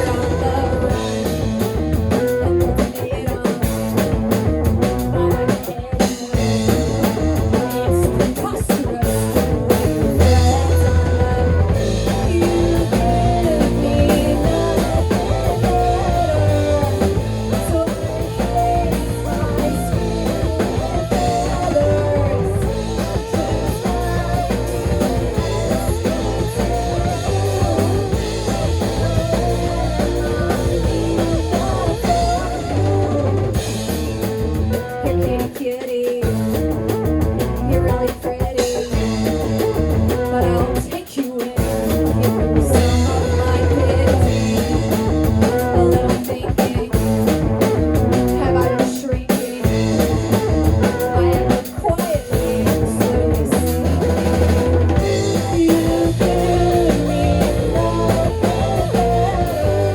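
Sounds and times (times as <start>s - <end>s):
electric guitar: 0.0s - 59.9s
live rock band playing: 0.0s - 59.9s.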